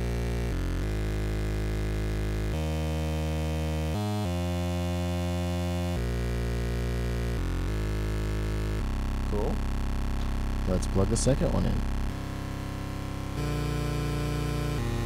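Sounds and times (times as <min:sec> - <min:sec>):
buzzy synth bass line: 0:00.0 - 0:15.0.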